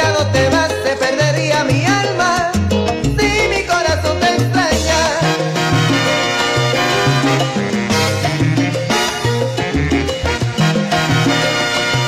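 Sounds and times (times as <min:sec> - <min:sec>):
bass line: 0:00.0 - 0:12.0
salsa band music: 0:00.0 - 0:12.0.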